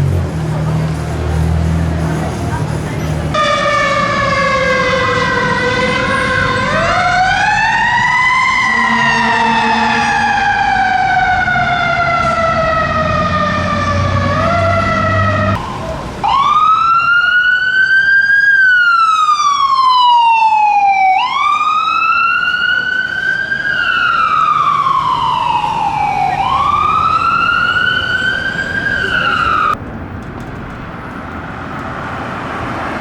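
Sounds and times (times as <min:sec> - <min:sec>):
emergency siren wailing: 0:03.3 - 0:29.8.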